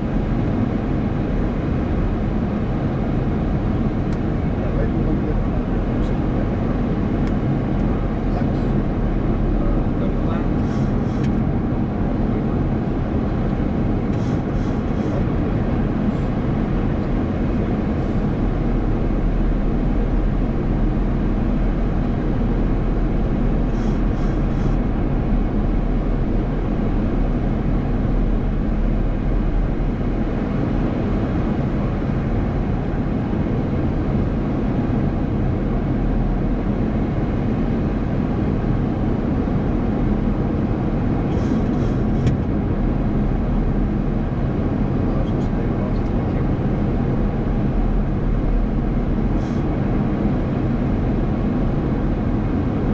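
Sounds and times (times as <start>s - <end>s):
flight deck deep rush: 0.0s - 52.9s.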